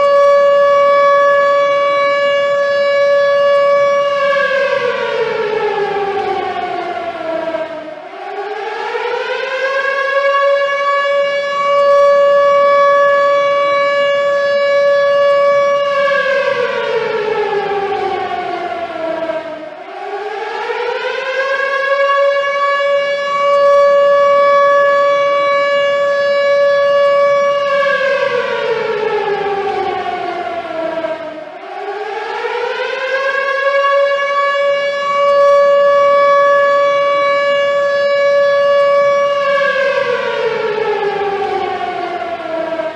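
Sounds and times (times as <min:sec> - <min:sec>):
air-raid siren wailing: 0:00.0 - 0:42.9.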